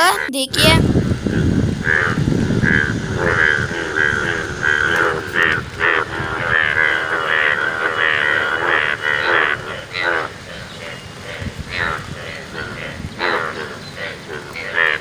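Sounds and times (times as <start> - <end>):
bullfrogs croaking: 0.0 - 15.0.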